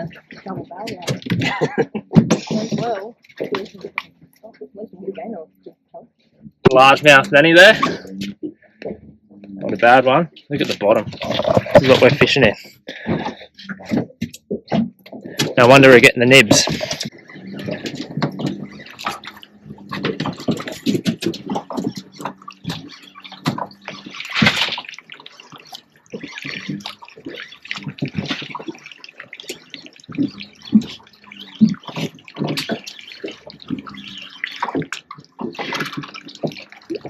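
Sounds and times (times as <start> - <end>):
water sloshing and splashing: 0.0 - 37.0.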